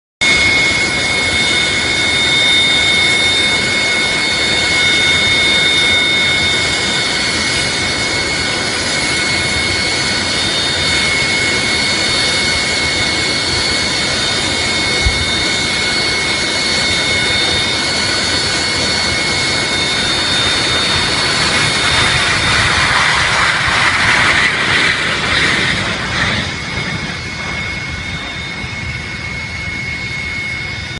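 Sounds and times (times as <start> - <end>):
aircraft engines whining and roaring: 0.2 - 30.9.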